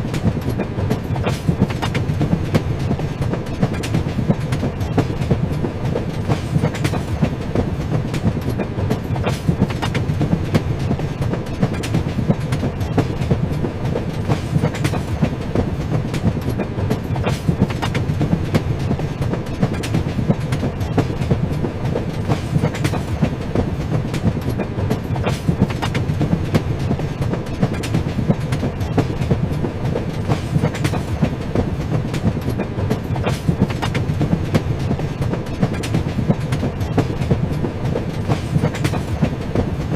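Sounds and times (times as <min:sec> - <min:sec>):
train rumbling along track: 0:00.0 - 0:39.9
wheels clacking over rail joints: 0:00.0 - 0:39.9.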